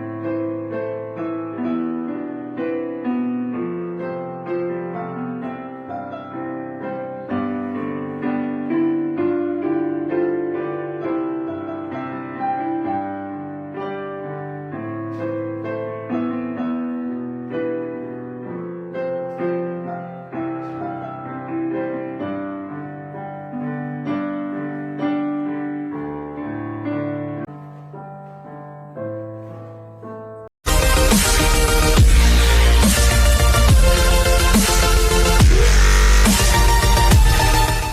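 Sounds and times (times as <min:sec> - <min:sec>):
piano melody: 0:00.0 - 0:37.9.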